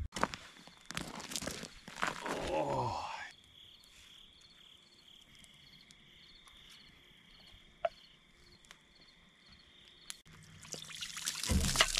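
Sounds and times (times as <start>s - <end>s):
crickets chirping: 0.2s - 11.7s.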